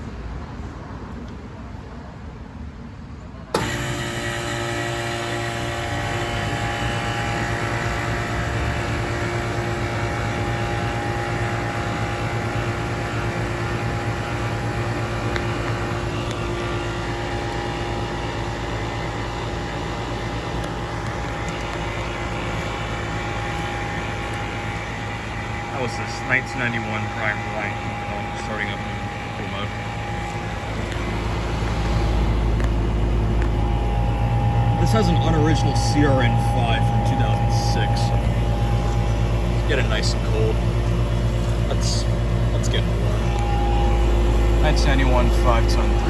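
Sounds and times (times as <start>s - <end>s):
heat pump humming: 3.6s - 46.0s.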